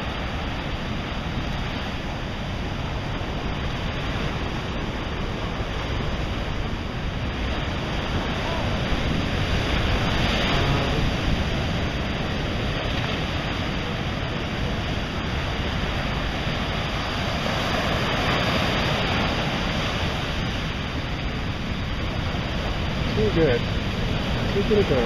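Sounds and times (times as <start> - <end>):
ocean surf washing onto beach: 0.0 - 25.0.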